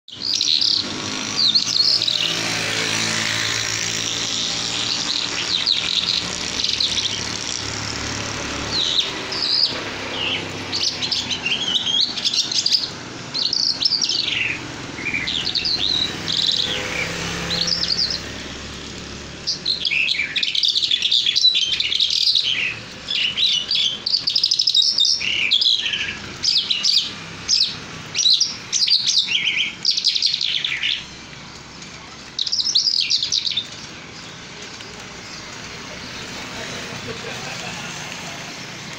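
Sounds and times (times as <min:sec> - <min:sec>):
songbird twittering and warbling: 0:00.1 - 0:38.9.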